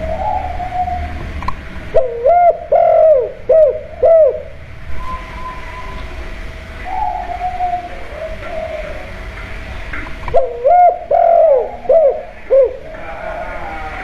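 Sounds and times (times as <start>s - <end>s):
dove cooing: 0.0s - 6.2s, 6.8s - 9.7s, 10.3s - 14.0s.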